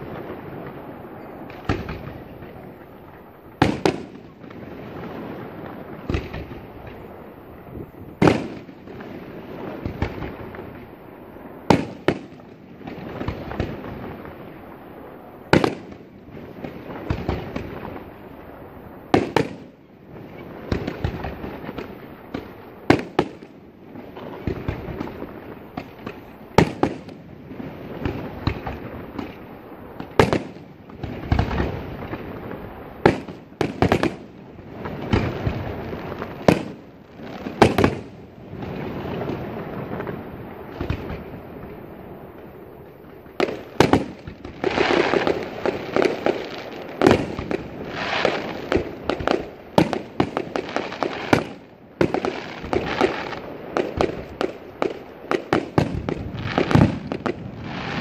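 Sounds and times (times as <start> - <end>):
continuous fireworks din: 0.0 - 58.0.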